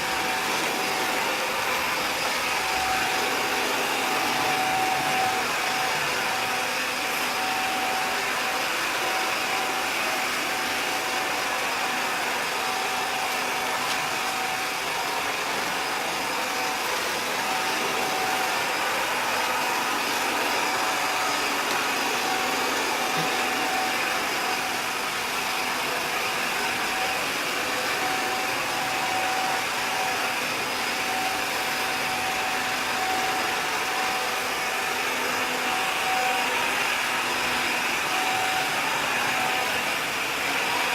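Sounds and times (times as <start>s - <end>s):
robot vacuum whirring: 0.0s - 40.9s
thin whine: 0.0s - 40.9s.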